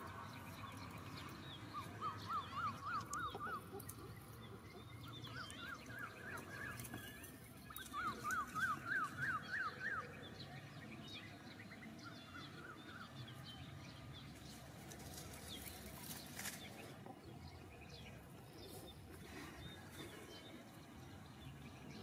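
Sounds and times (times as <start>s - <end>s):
bird chirping: 0.0s - 22.0s
outdoor background noise: 0.0s - 22.0s.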